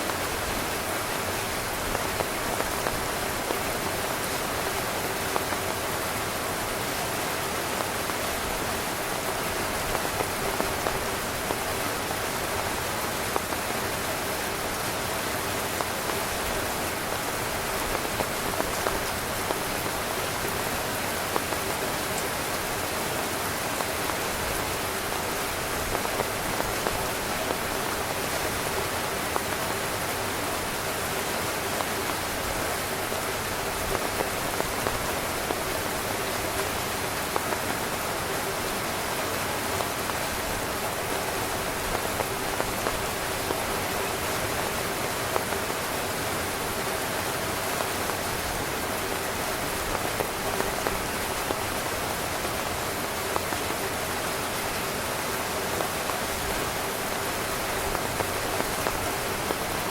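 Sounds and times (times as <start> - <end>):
rain on a tent: 0.0 - 59.9
raindrops hitting fabric: 0.0 - 59.9.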